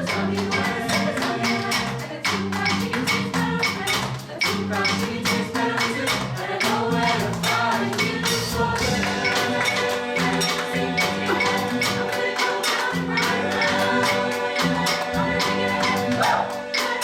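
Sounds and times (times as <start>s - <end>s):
choir singing pop: 0.0s - 17.0s
hand percussion beat: 0.0s - 17.0s.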